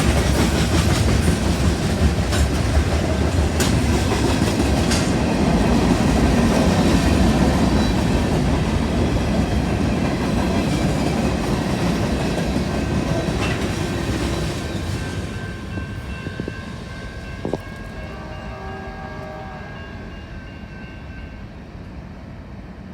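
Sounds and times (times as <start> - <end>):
freight train rumbling past: 0.0 - 22.9.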